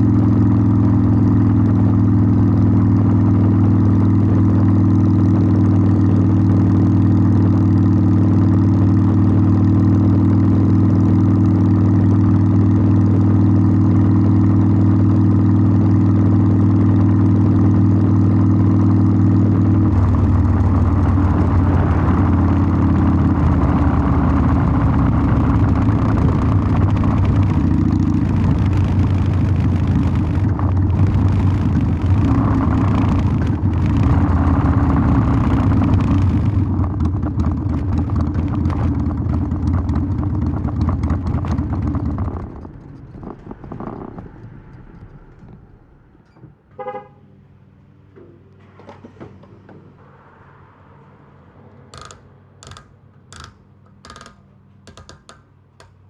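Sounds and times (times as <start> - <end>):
motorcycle engine exhaust: 0.0 - 47.2.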